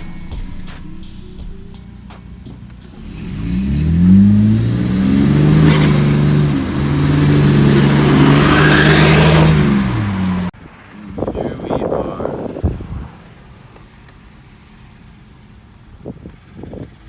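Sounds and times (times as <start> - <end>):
turbocharged car engine revving: 0.0 - 13.8.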